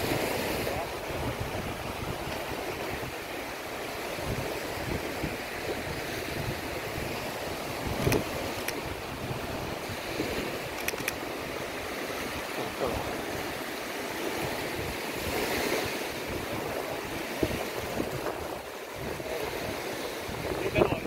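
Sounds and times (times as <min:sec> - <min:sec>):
waves breaking on beach: 0:00.0 - 0:21.0
wind buffeting microphone: 0:00.0 - 0:21.0.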